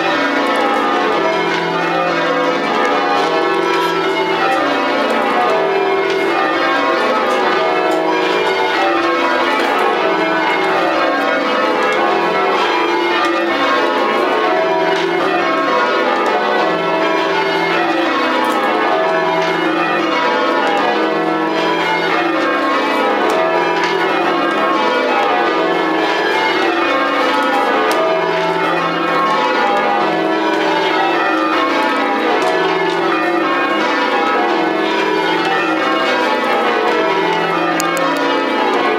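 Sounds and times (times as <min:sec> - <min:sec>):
church bells ringing in rounds: 0:00.0 - 0:38.9.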